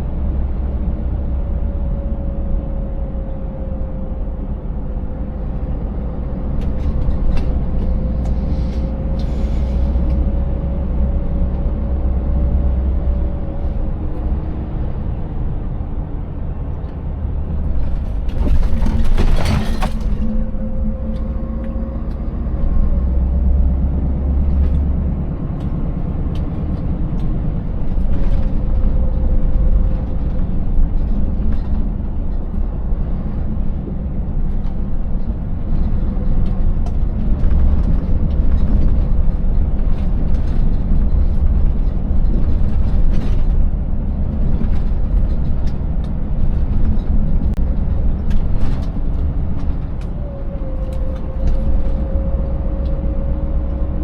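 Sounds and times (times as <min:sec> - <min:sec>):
road rumble: 0:00.0 - 0:54.0
truck engine running: 0:03.0 - 0:54.0
knocks and rattles on rough road: 0:04.8 - 0:54.0.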